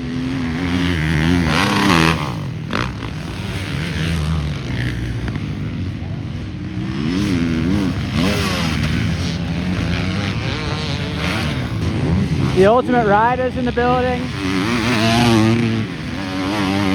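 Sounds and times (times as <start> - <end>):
motocross bike engines revving: 0.0 - 16.9.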